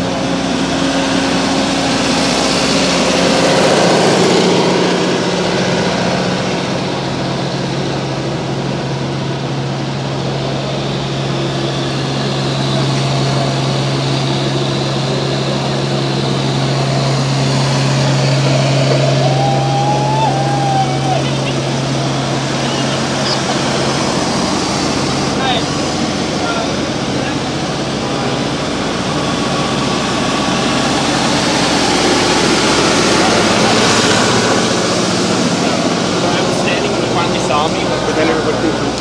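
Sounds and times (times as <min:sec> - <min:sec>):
rush of noise: 0:00.0 - 0:39.0
vehicle engine humming: 0:00.0 - 0:39.0.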